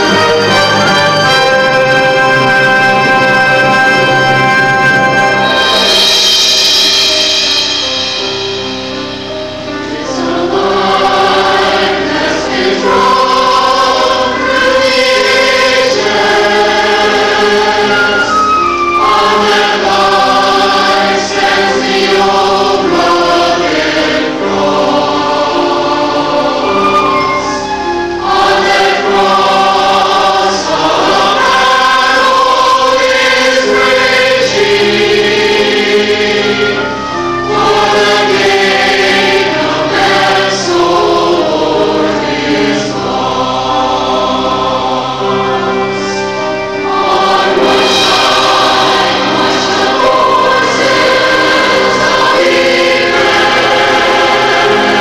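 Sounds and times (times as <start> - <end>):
church choir singing: 0.0 - 55.0
instrumental accompaniment: 0.0 - 55.0.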